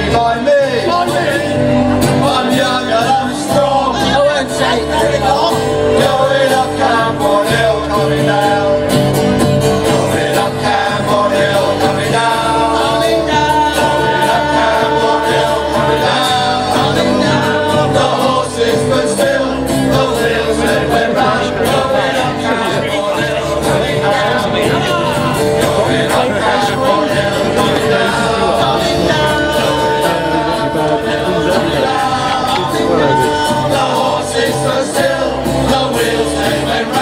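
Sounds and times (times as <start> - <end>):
group singing with instruments: 0.0 - 37.0.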